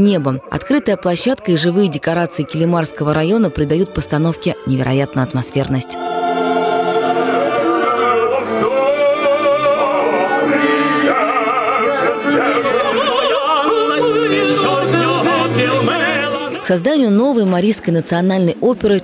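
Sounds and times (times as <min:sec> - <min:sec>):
operatic singing: 0:00.0 - 0:18.0
orchestra: 0:01.6 - 0:17.8.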